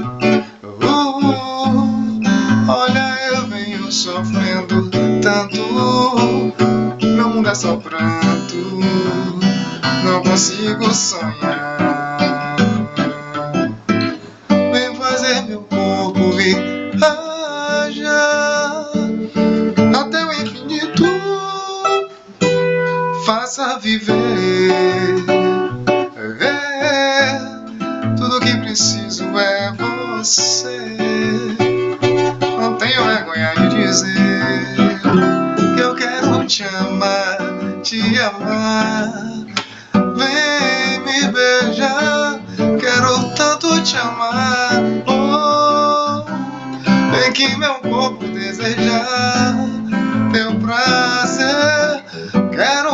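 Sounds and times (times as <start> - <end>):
person singing: 0.0 - 22.6, 23.2 - 52.9
strummed acoustic guitar: 0.0 - 52.9.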